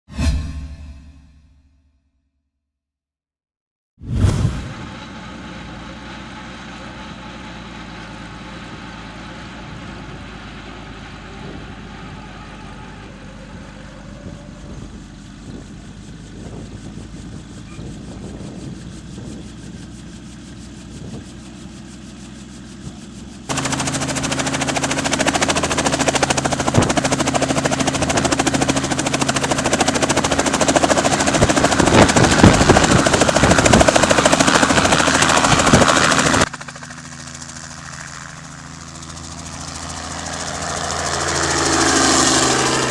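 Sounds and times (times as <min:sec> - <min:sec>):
helicopter rotor chopping: 0:04.2 - 0:42.9.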